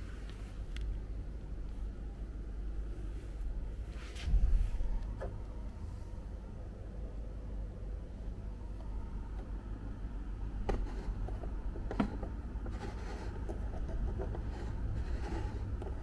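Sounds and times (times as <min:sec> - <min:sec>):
low rumble of handling noise: 0:00.0 - 0:16.0.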